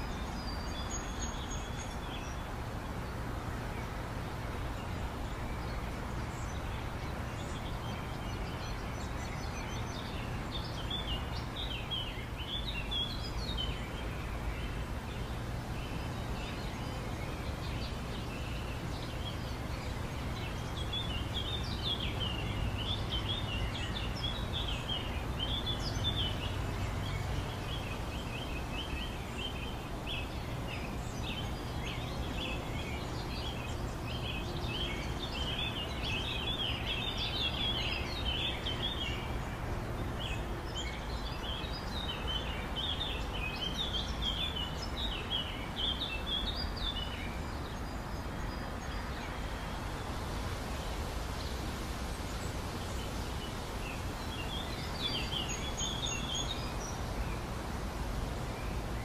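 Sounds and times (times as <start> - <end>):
small birds chirping and chattering: 0.0 - 59.0.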